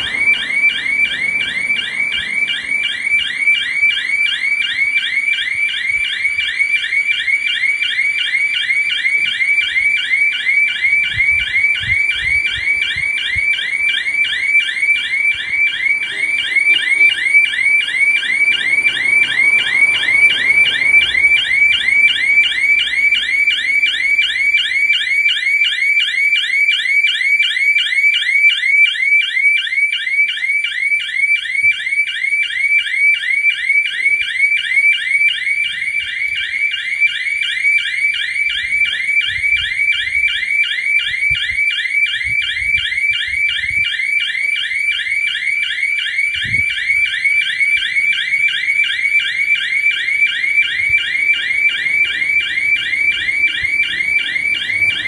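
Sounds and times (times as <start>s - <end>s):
electronic alarm siren: 0.0s - 55.0s.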